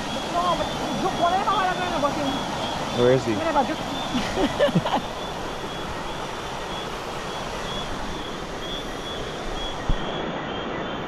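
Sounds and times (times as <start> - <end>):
faint high chirp: 0.0 - 11.0
flowing river water: 0.0 - 11.0.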